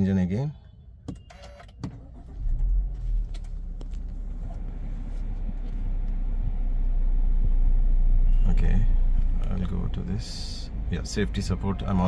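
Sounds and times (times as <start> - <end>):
car engine starting and idling: 1.2 - 12.0.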